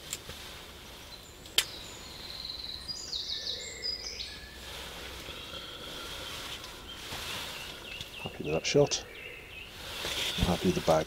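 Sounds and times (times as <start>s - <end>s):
faint outdoor background: 0.0s - 11.0s
birds calling in high notes: 1.0s - 11.0s.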